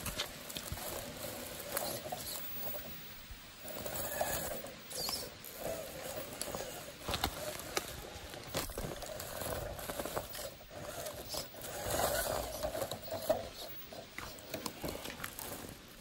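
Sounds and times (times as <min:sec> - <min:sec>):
electric motor whining: 0:00.0 - 0:15.7
tyres scraping over rock: 0:00.0 - 0:16.0.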